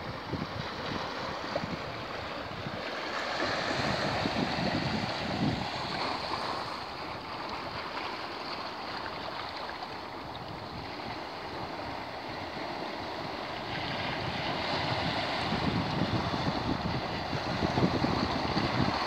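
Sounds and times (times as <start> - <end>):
wind buffeting microphone: 0.0 - 8.3, 10.0 - 19.0
small waves washing over sand: 0.0 - 19.0.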